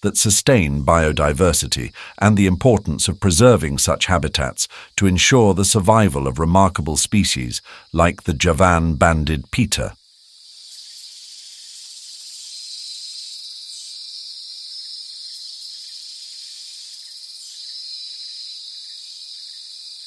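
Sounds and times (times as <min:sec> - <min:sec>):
insect chorus drone: 0:00.2 - 0:20.0.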